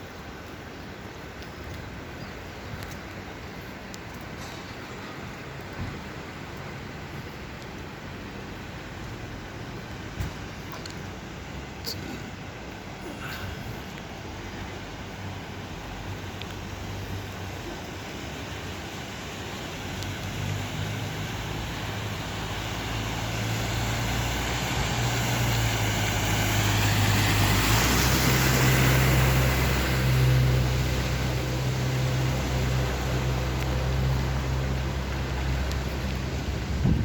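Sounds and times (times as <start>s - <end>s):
low traffic hum: 0.0s - 37.0s
hiss of passing vehicle: 3.2s - 37.0s.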